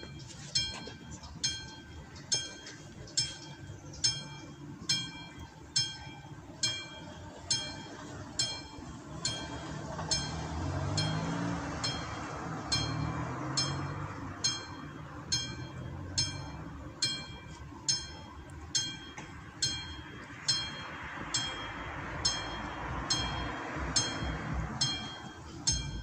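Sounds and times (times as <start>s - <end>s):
level crossing bell ringing: 0.0s - 26.0s.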